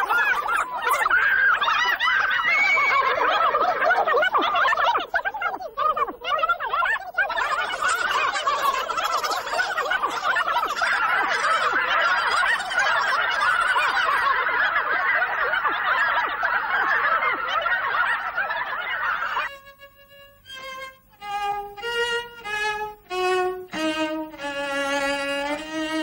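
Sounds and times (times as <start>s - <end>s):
sped-up cartoon voices chattering: 0.0s - 25.0s.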